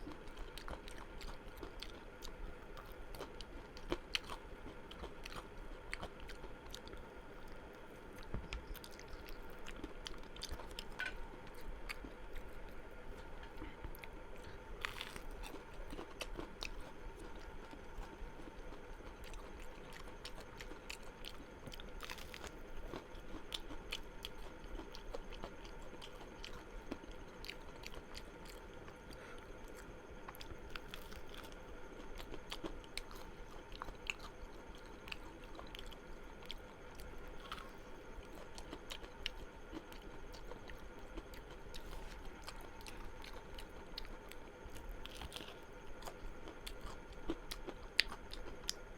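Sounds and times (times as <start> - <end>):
person chewing and crunching food: 0.0 - 48.9.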